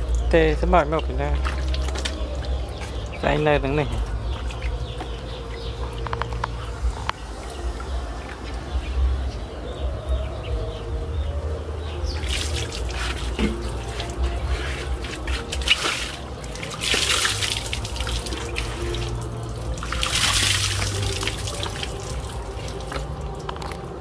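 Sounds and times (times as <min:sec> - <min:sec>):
water running and splashing: 0:00.0 - 0:09.5, 0:12.0 - 0:24.0.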